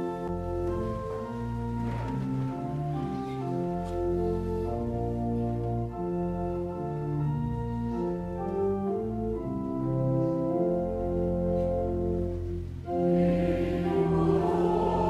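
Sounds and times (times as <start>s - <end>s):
organ playing hymn chords: 0.0s - 15.0s.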